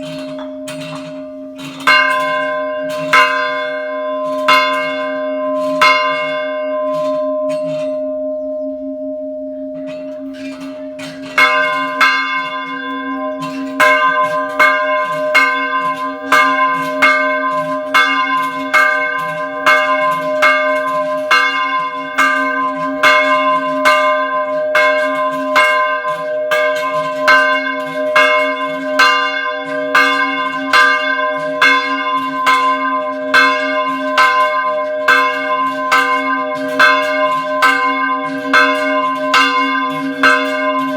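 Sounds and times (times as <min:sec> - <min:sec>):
small church bell ringing: 0:00.0 - 0:40.9.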